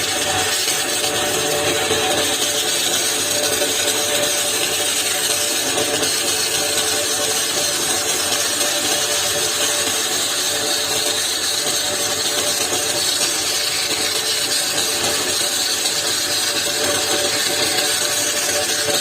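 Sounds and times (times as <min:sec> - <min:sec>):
power tool whirring on wood: 0:00.0 - 0:19.0.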